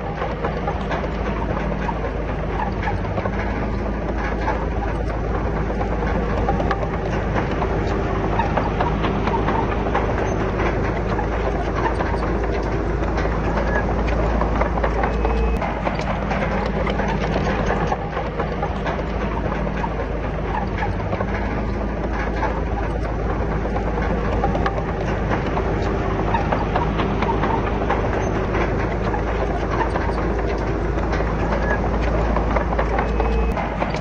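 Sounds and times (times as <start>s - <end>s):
heavy machinery diesel engine: 0.0s - 34.0s
metallic clanks and rattles: 0.0s - 34.0s.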